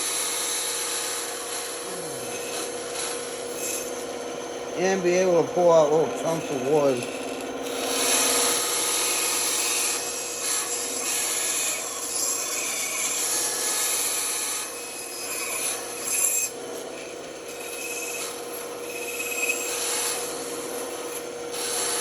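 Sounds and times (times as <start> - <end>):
band saw cutting wood: 0.0 - 22.0.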